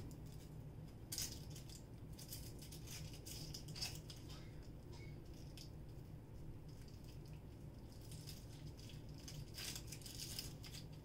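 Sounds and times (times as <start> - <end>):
onion being cut and peeled: 0.0 - 5.8, 6.6 - 11.0
steady low hum: 0.0 - 11.0.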